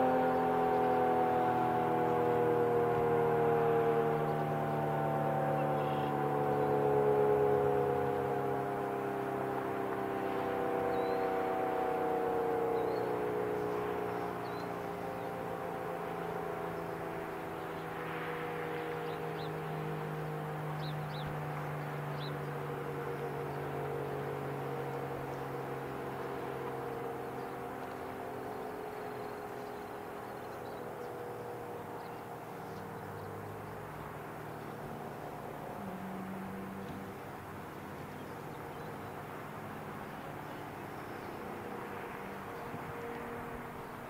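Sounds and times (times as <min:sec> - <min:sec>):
warning siren steady tone: 0:00.0 - 0:44.0.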